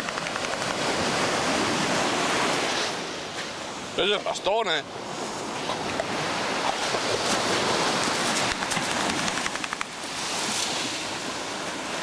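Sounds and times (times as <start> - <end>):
sea surf washing onto beach: 0.0 - 12.0.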